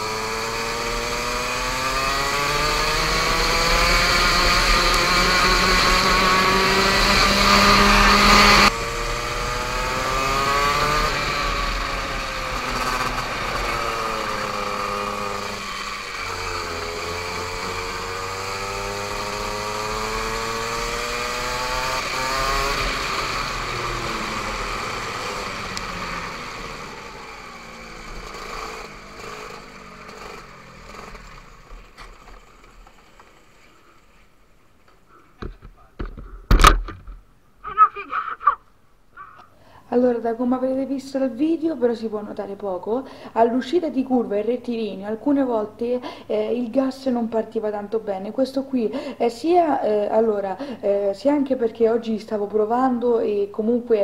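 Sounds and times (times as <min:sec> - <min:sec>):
go-kart engine: 0:00.0 - 0:38.6, 0:39.2 - 0:54.0.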